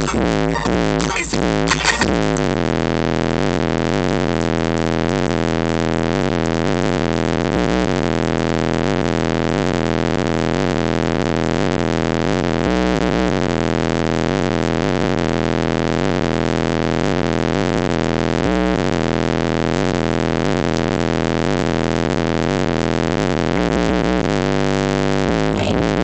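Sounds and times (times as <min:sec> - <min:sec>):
distorted loud bass-heavy music: 0:00.0 - 0:26.0.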